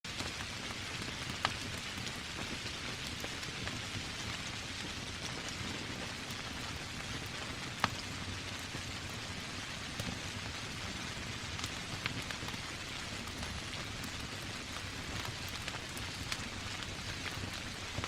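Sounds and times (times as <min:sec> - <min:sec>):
log fire popping: 0:00.1 - 0:18.0
rain hissing and pattering: 0:00.1 - 0:18.0.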